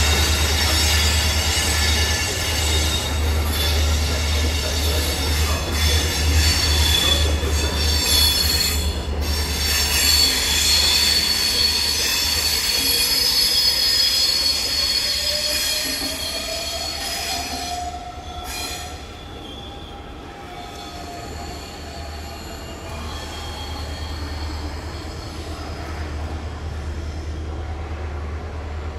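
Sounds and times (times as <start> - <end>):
low train rumble: 0.0 - 28.9
train wheels squealing on rails: 0.0 - 28.9.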